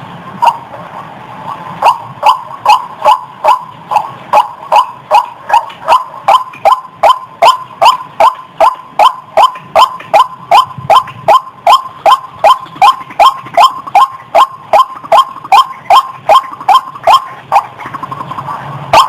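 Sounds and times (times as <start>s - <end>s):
waterhen calling harsh notes: 0.4s - 19.0s.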